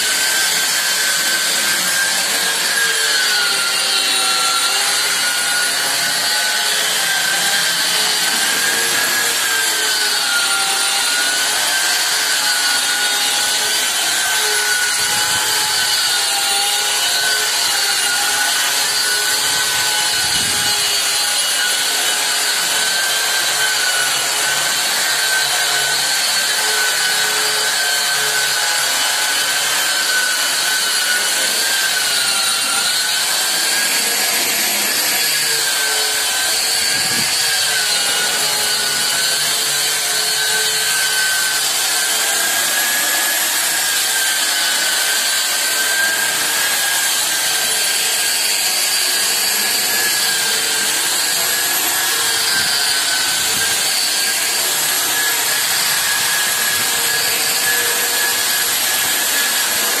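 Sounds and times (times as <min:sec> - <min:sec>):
sander motor whine: 0:00.0 - 1:00.0.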